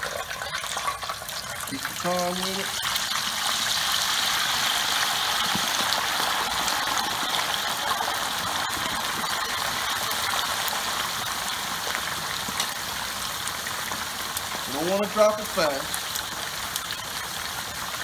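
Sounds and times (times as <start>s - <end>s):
oil bubbling and sizzling: 0.0s - 18.0s.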